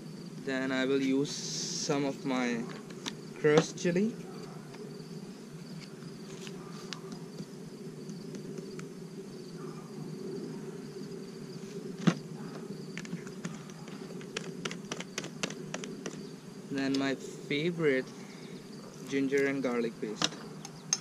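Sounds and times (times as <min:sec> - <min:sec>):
flying insects buzzing: 0:00.0 - 0:21.0.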